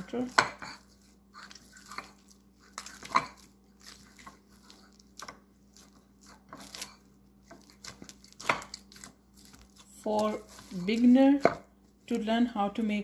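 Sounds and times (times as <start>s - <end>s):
dough kneading squishes: 0.0s - 13.0s.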